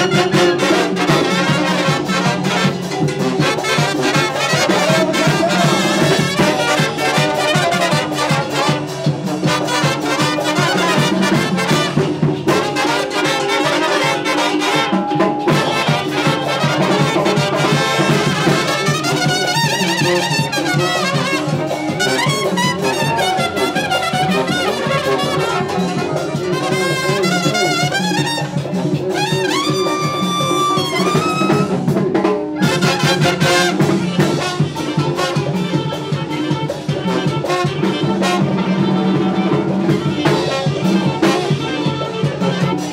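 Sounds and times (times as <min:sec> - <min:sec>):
brass band music: 0:00.0 - 0:42.9.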